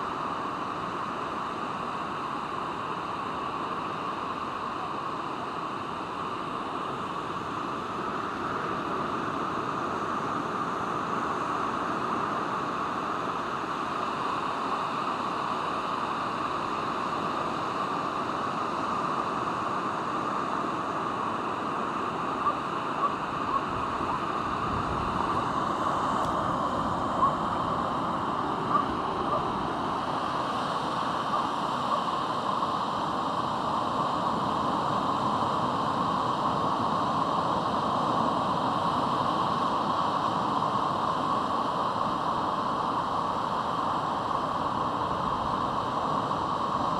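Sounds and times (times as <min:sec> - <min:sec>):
waves breaking on a beach: 0:00.0 - 0:46.9.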